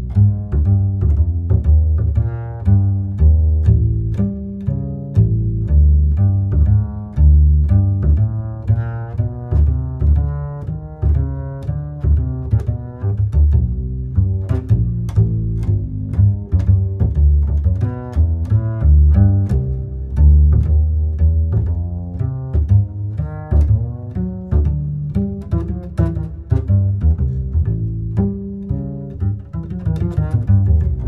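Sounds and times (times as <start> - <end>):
plucked deep bass line: 0.0 - 31.0.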